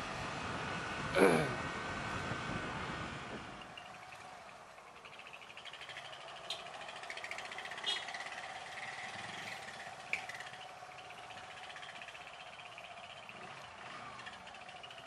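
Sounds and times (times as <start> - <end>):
motorcycle engine whine: 0.0 - 15.0.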